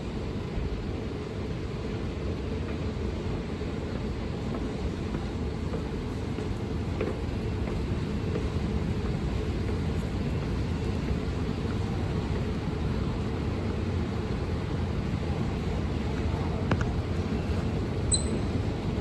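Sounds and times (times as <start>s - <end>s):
train rumbling in tunnel: 0.0s - 19.0s.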